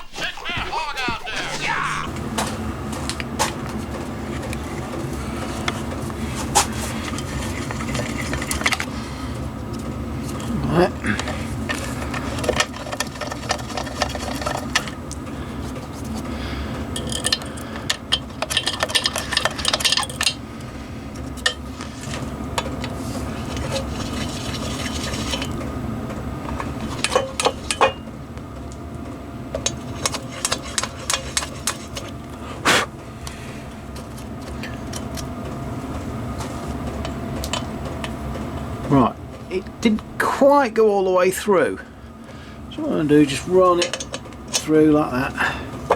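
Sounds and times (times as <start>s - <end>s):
milling machine running: 0.4s - 41.3s.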